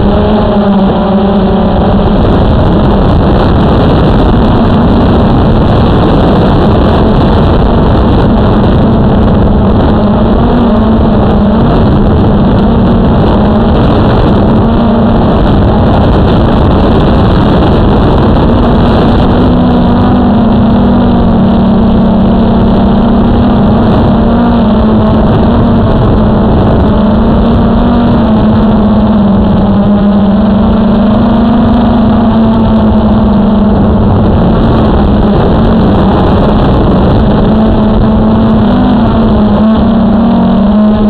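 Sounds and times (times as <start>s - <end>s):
drone propellers buzzing: 0.0s - 41.0s.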